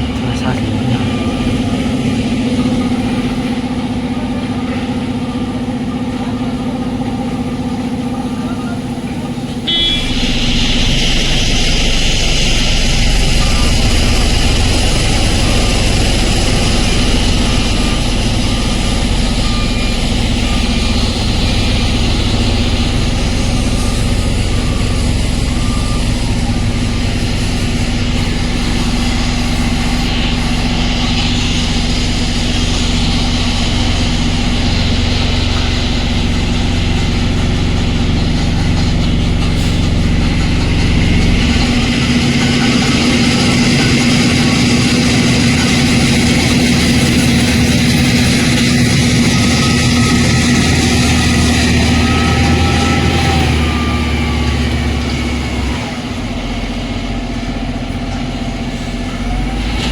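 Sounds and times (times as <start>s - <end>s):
heavy machinery mechanical drone: 0.0s - 59.9s.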